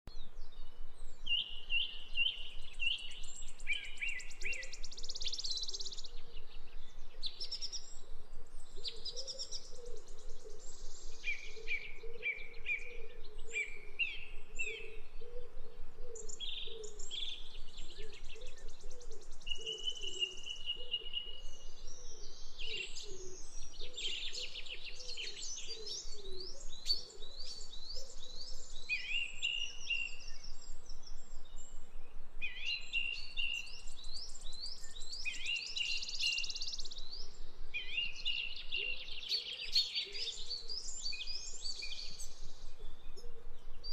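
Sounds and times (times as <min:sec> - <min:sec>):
birds chirping and singing: 0:00.4 - 0:43.9.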